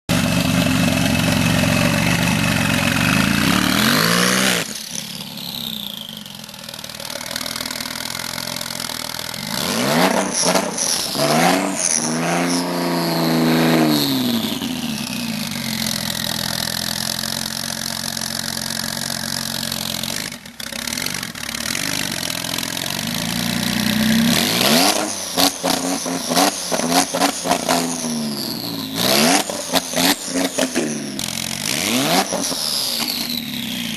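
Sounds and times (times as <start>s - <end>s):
car engine revving: 0.1s - 33.9s
exhaust cracks: 0.1s - 33.9s.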